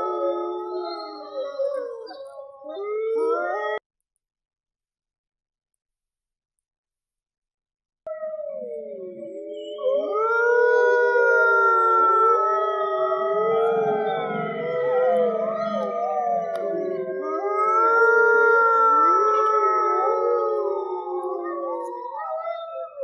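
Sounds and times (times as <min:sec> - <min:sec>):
wolves howling: 0:00.0 - 0:03.8, 0:08.1 - 0:23.0.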